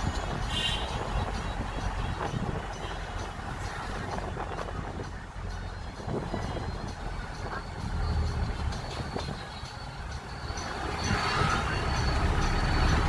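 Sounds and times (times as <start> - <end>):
low rumble of moving vehicle: 0.0 - 13.0.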